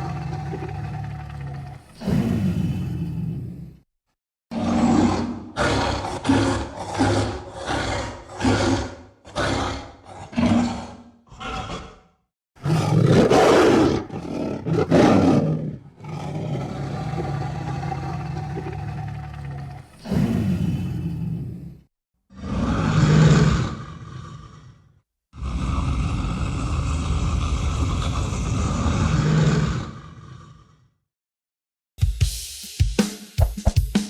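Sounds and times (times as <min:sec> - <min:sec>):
tiger growling low: 0:00.0 - 0:03.8, 0:04.5 - 0:30.9
tiger roaring: 0:00.0 - 0:03.8, 0:04.5 - 0:31.0.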